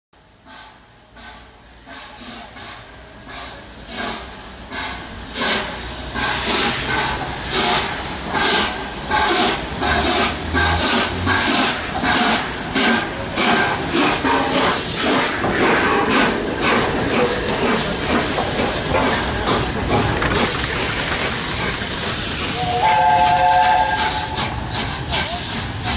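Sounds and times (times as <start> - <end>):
steam hissing: 0.2 - 25.9
steam locomotive exhaust beats: 0.2 - 25.9.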